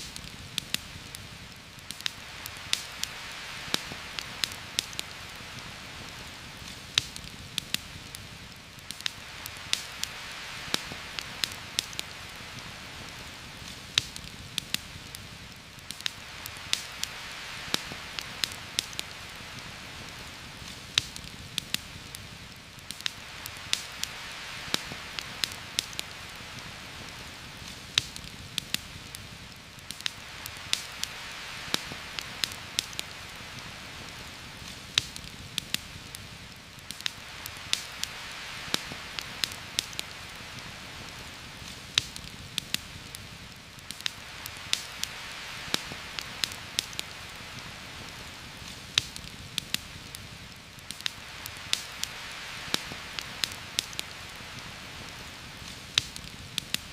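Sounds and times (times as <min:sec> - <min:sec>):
heavy rain on forest canopy: 0:00.0 - 0:56.9
sharp ticks and pops: 0:00.0 - 0:56.9.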